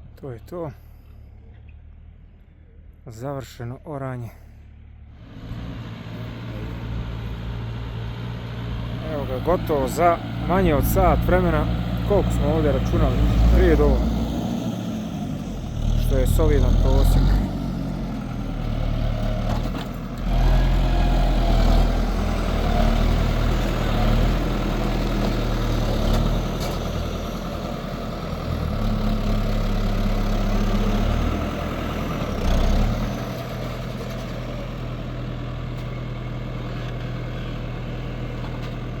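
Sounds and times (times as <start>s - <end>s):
tractor diesel engine running: 4.4s - 39.0s.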